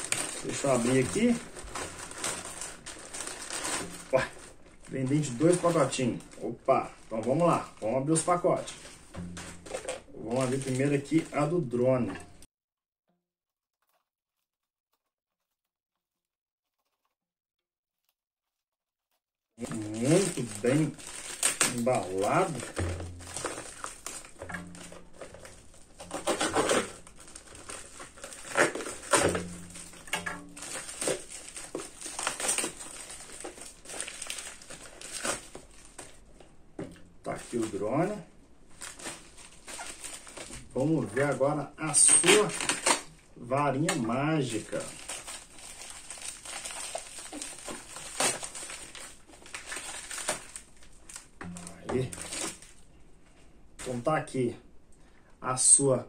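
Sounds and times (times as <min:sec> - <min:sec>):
plastic wrap crinkling and tearing: 0:00.0 - 0:12.5, 0:19.6 - 0:52.9.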